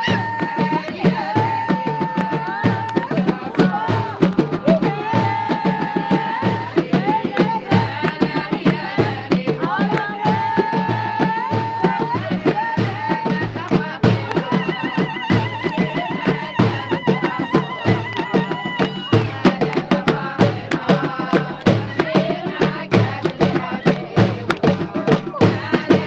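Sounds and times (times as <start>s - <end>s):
fast drums and percussion: 0.0s - 26.0s.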